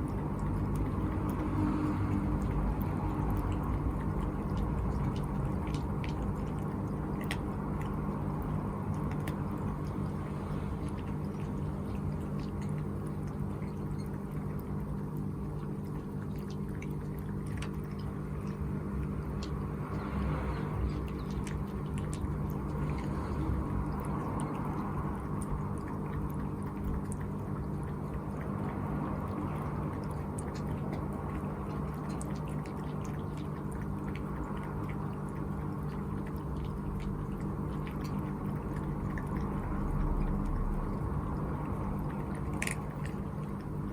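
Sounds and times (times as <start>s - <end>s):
cat lapping water: 0.0s - 43.9s
low hum: 0.0s - 43.9s
water dripping: 0.0s - 43.9s.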